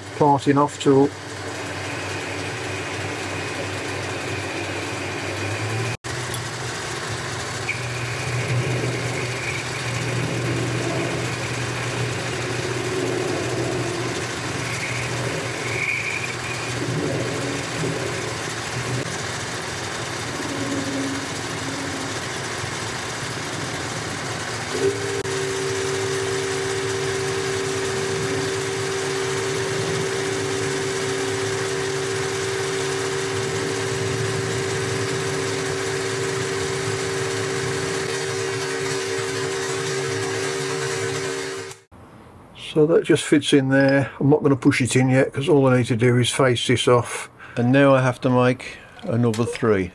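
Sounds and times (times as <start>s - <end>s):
lathe cutting metal bar: 0.0s - 41.9s.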